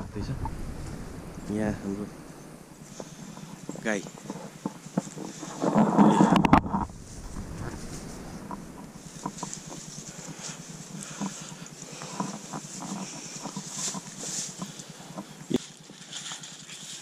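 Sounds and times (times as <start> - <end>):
cattle knocking and rustling straw: 3.0 - 17.0.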